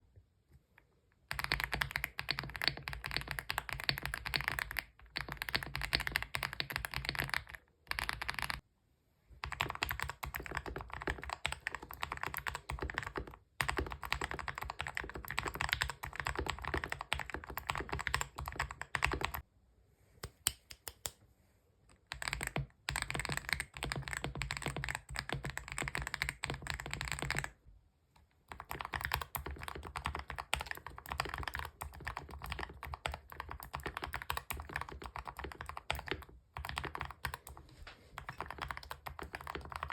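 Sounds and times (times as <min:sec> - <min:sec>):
fast typing on mechanical keyboard: 0:01.3 - 0:08.6, 0:09.4 - 0:19.4, 0:22.1 - 0:27.6, 0:28.5 - 0:37.6, 0:38.2 - 0:39.9.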